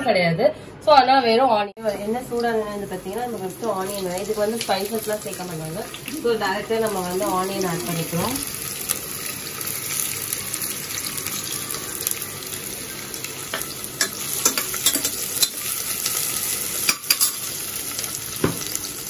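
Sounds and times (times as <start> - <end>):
onions sizzling in hot oil: 1.8 - 19.0.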